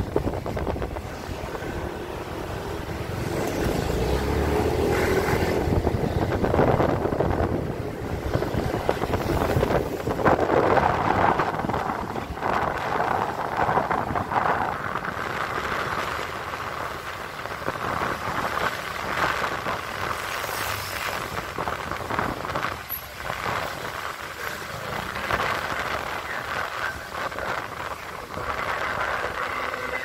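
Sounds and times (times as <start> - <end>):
vehicle rushing along a road: 0.0 - 30.0.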